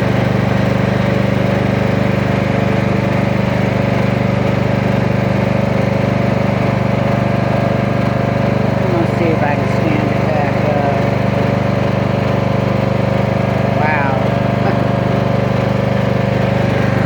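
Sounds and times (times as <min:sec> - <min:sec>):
small engine humming steadily: 0:00.0 - 0:17.0.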